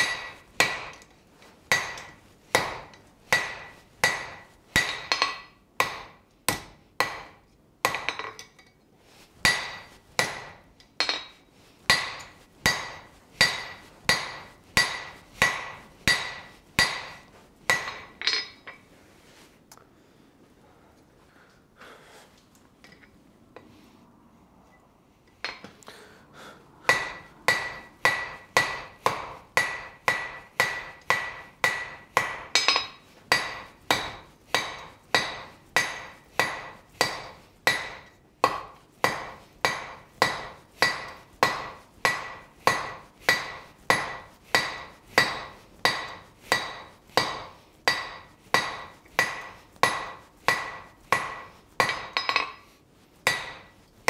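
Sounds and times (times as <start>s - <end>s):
hammer striking steel on anvil: 0.0s - 8.8s, 9.4s - 18.9s, 25.4s - 25.8s, 26.8s - 53.9s.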